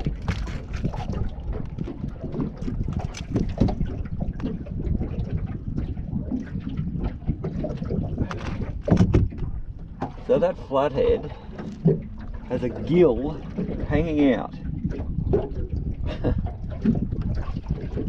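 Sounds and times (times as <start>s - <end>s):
water sound: 0.0s - 18.0s
wind buffeting microphone: 0.0s - 18.0s.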